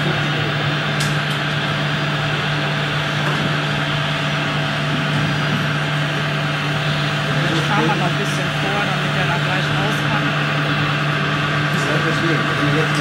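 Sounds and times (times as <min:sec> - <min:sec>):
model excavator hydraulic pump humming: 0:00.0 - 0:13.0.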